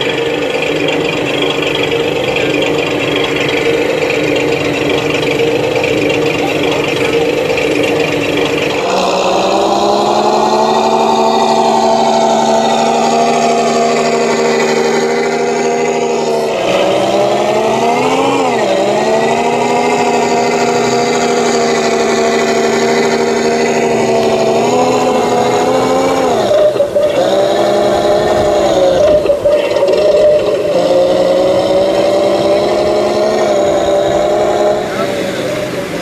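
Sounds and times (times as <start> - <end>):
model truck motor drone: 0.0 - 36.0.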